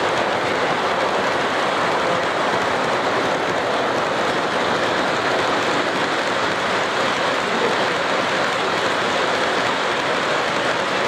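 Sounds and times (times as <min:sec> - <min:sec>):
model train wheels rolling on rail: 0:00.0 - 0:11.0.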